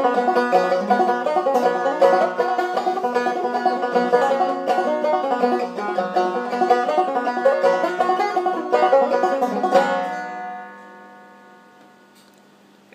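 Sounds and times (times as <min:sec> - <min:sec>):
banjo playing: 0:00.0 - 0:11.7.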